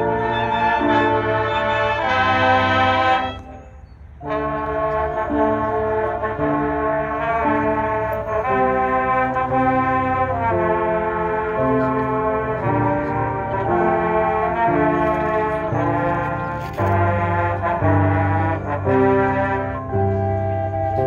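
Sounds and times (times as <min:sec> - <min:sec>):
marching band brass chords: 0:00.0 - 0:03.6, 0:04.2 - 0:21.0.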